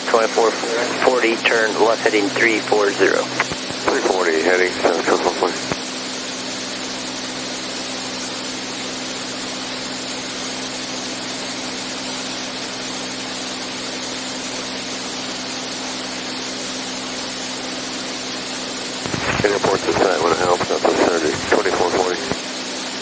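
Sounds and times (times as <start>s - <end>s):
airplane engine and propeller drone: 0.0s - 23.0s.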